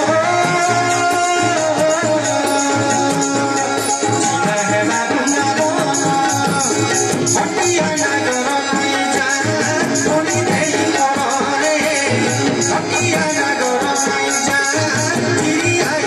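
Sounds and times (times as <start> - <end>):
harmonium chords: 0.0 - 16.0
jingling hand percussion: 0.0 - 16.0
steady drum beat: 0.0 - 16.0.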